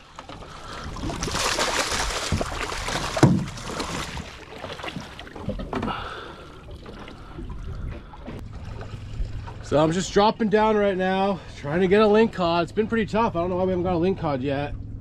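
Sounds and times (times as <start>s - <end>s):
water splashing against a boat: 0.0s - 14.8s.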